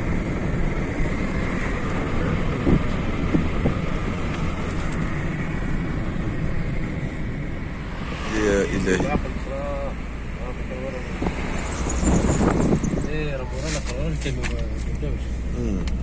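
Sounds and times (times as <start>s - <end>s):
car engine: 0.0s - 16.0s.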